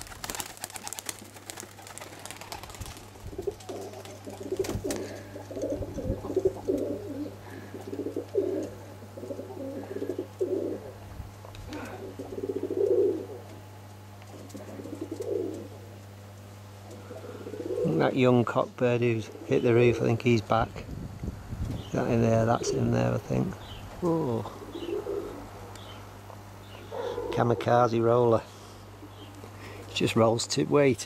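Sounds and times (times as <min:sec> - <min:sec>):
pigeons cooing: 0:00.0 - 0:16.0, 0:16.9 - 0:18.3, 0:19.1 - 0:20.0, 0:21.8 - 0:29.9.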